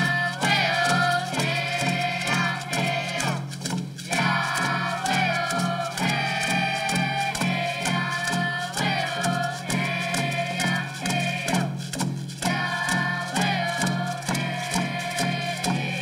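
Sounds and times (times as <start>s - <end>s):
children singing in unison: 0.0s - 3.5s, 4.1s - 11.8s, 12.4s - 16.0s
hand drums beating: 0.0s - 16.0s
hand-held rattles shaking: 0.0s - 16.0s.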